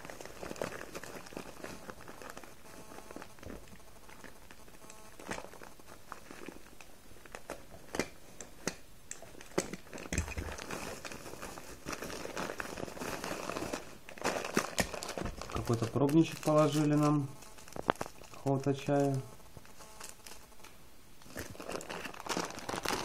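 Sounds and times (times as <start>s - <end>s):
plastic packaging crinkling: 0.0s - 23.0s
sharp crackles and clicks: 0.0s - 23.0s.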